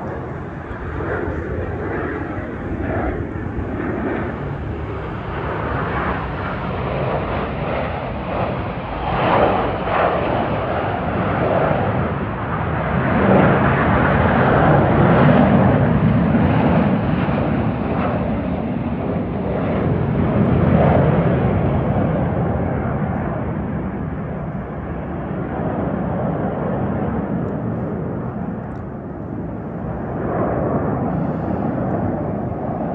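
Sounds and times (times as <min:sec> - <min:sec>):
jet planes roaring past: 0:00.0 - 0:32.9.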